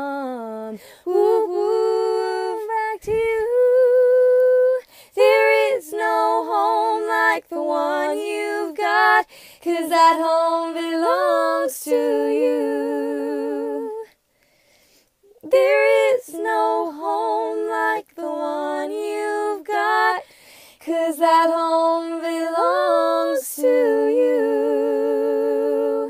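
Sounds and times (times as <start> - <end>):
woman singing a cappella harmony: 0.0 - 14.2, 15.3 - 26.0.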